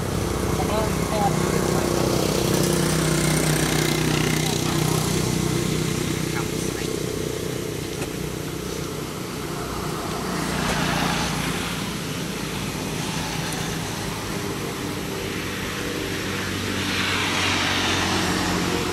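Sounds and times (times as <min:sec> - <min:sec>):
vehicle engine running: 0:00.0 - 0:16.3.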